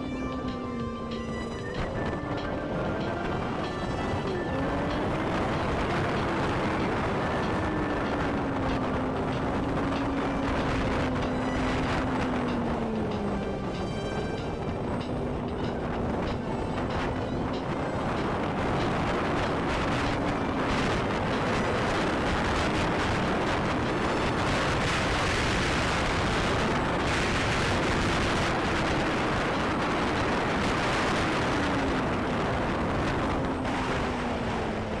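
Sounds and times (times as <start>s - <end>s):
low engine drone: 0.0s - 35.0s
wind and road noise: 0.0s - 35.0s.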